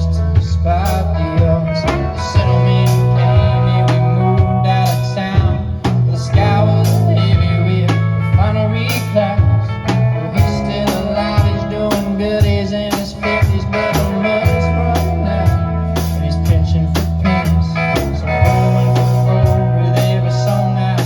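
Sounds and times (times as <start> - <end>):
guitar: 0.0 - 21.0
held bass notes: 0.0 - 21.0
live blues-rock band: 0.0 - 21.0
steady drum beat: 0.0 - 21.0.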